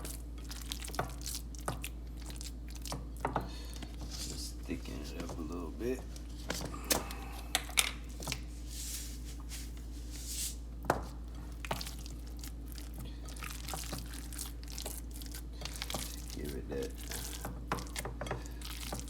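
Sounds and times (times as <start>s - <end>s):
hands squishing wet ground meat: 0.0s - 19.0s
steady low hum: 0.0s - 19.0s.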